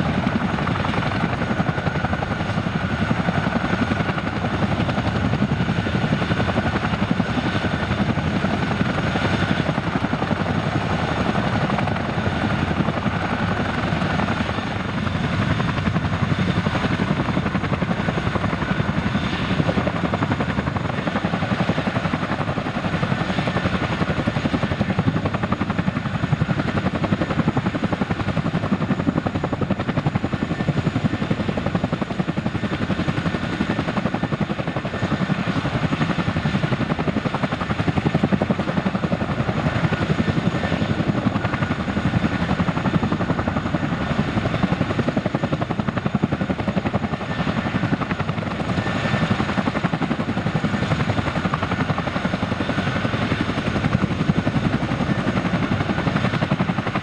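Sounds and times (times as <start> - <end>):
helicopter rotors beating: 0.0 - 57.0.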